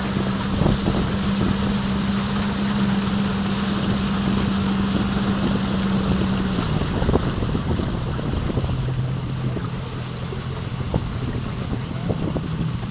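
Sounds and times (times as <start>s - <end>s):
jet ski engine running: 0.0s - 12.9s.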